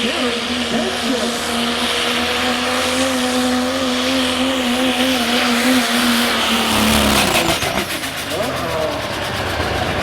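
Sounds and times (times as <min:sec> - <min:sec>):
truck engine at high revs: 0:00.0 - 0:10.0.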